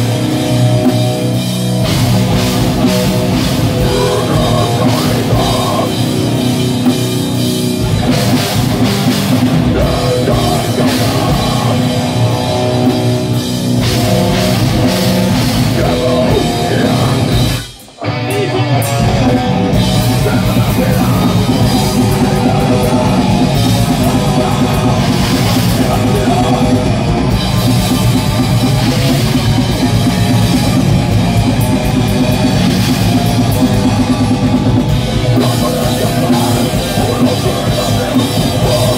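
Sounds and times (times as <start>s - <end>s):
metal band playing live: 0.0s - 38.9s.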